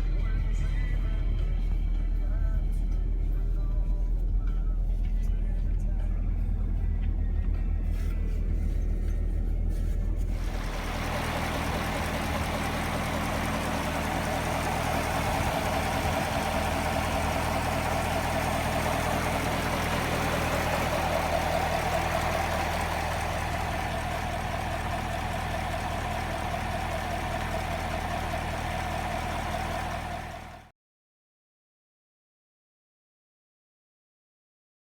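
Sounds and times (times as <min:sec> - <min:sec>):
car engine running: 0:01.0 - 0:30.7.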